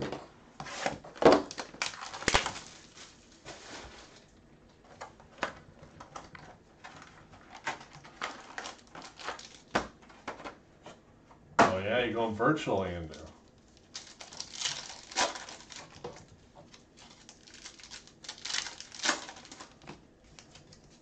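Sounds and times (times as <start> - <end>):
cardboard clicks and rustles: 0.0 - 11.0, 13.1 - 21.0.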